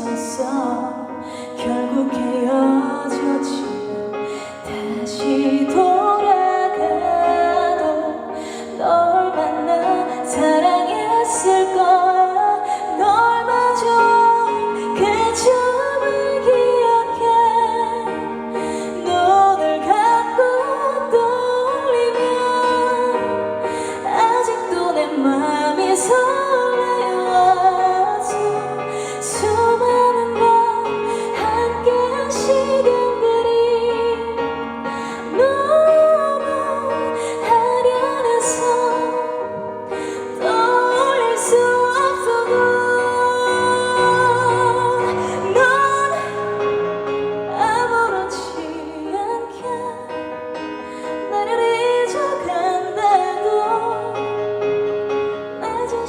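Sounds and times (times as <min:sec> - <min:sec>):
woman singing a ballad: 0:00.0 - 0:56.0.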